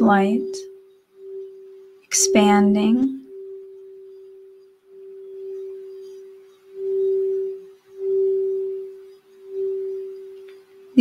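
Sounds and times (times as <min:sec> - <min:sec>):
singing bowl tone: 0:00.0 - 0:11.0.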